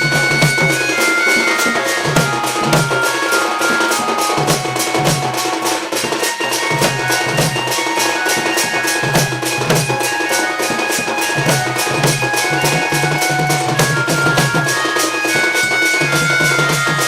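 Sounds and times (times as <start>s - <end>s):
deeper drum beats: 0.0s - 17.0s
fast steady drumming: 0.0s - 17.0s
high held melody: 0.0s - 17.0s.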